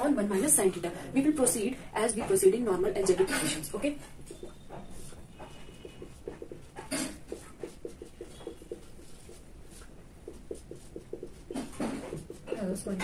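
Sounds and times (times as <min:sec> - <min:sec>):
marker squeaking on whiteboard: 0:02.0 - 0:13.0.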